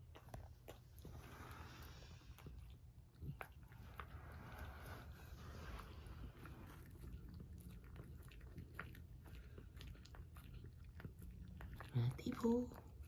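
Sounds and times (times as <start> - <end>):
dog chewing: 0.0 - 13.0.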